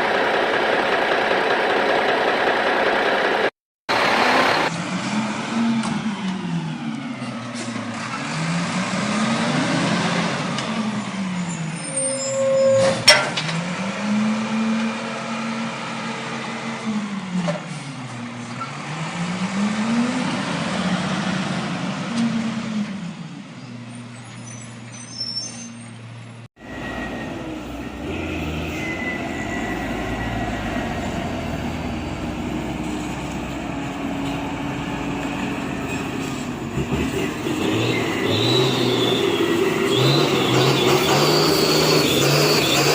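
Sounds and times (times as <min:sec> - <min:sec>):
truck engine revving: 0:00.0 - 0:11.8, 0:13.4 - 0:17.4, 0:18.1 - 0:23.0, 0:26.6 - 0:42.9.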